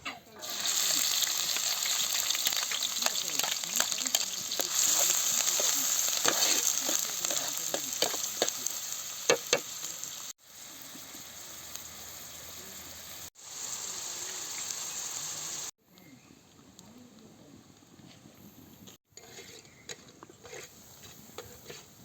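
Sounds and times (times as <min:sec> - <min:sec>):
food sizzling in a pan: 0:00.3 - 0:15.8, 0:19.2 - 0:22.0.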